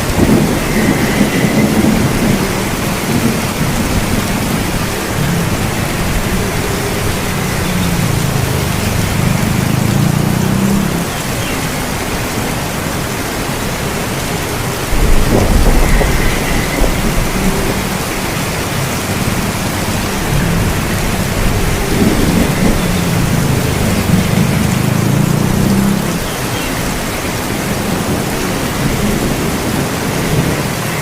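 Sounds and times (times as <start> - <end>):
heavy rain: 0.0 - 31.0
thunder rumbling: 0.0 - 31.0.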